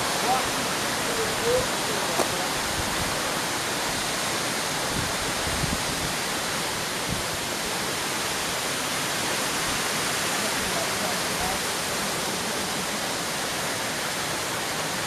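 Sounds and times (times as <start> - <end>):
stream tumbling over rocks: 0.0 - 15.0.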